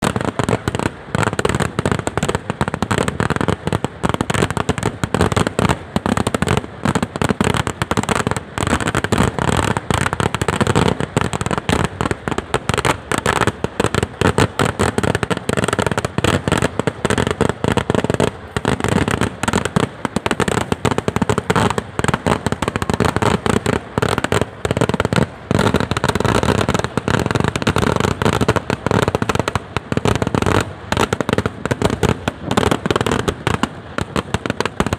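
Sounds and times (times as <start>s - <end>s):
firecracker bangs: 0.0s - 34.9s.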